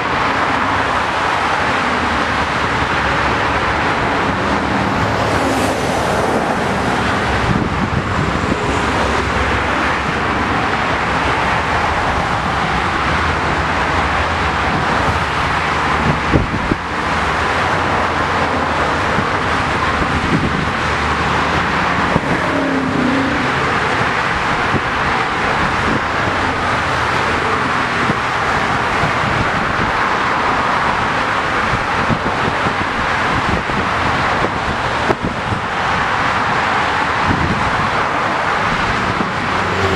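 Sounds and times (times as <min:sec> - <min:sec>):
highway traffic passing: 0:00.0 - 0:39.9.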